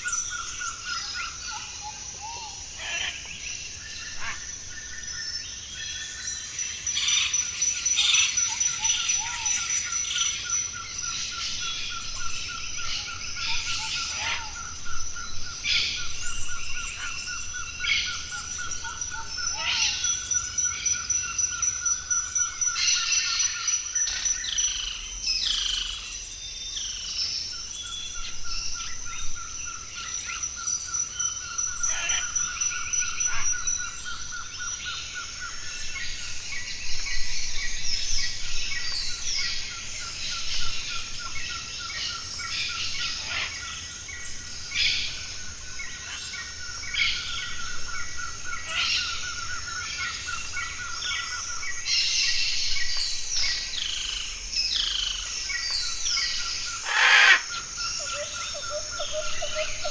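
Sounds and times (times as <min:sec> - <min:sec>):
birds calling and chirping: 0:00.0 - 0:59.9.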